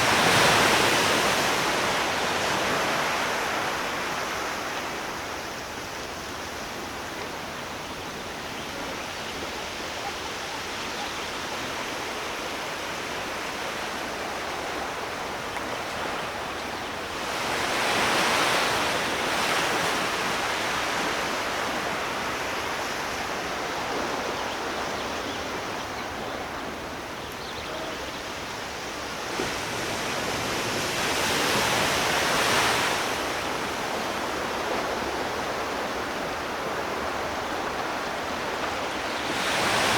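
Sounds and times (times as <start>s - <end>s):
ocean surf washing: 0.0s - 39.9s.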